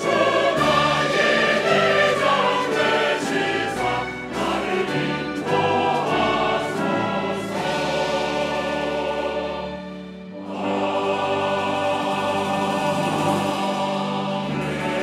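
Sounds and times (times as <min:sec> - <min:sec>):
choir singing a hymn: 0:00.0 - 0:15.0
orchestral accompaniment: 0:00.0 - 0:15.0.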